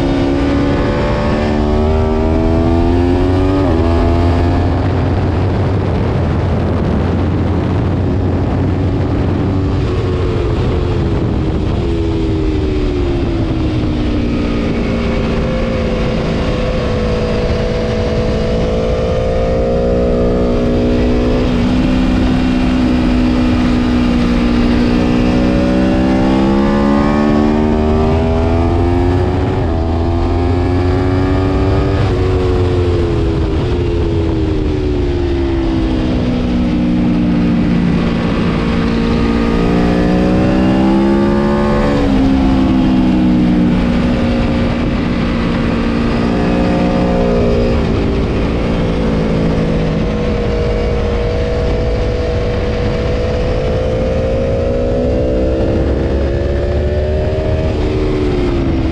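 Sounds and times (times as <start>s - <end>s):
motorcycle engine revving hard: 0.0s - 58.9s.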